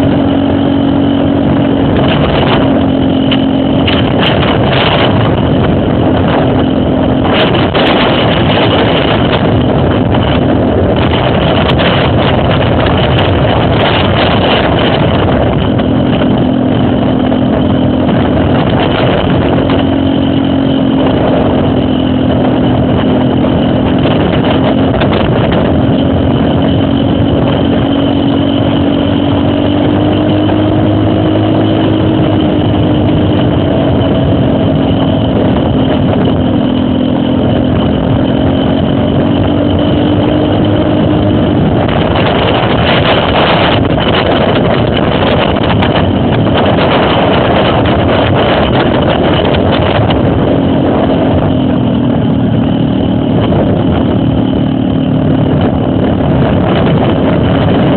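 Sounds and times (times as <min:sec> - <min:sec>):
loud rushing noise: 0:00.0 - 0:57.9
motorcycle engine running: 0:00.0 - 0:57.9.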